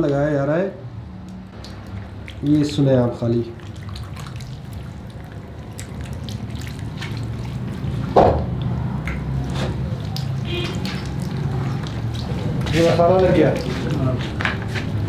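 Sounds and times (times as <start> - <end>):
hands squelching on raw meat: 1.2 - 15.0.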